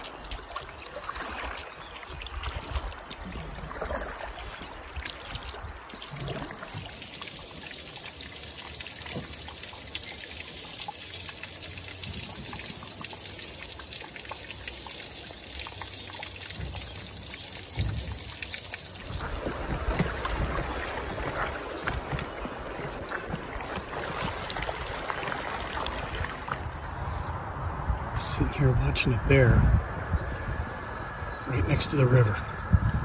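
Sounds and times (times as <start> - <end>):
creek water running over stones: 0.0 - 26.8.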